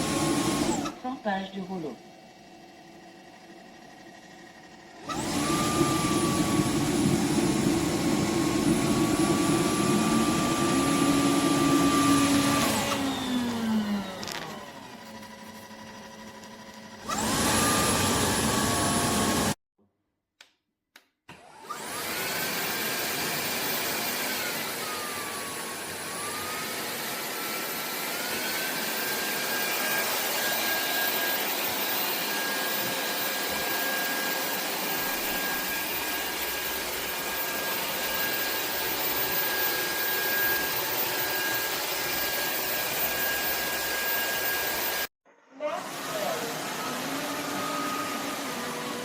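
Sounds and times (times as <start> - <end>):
vacuum motor whining: 0.0 - 19.6, 21.3 - 45.1, 45.8 - 49.0.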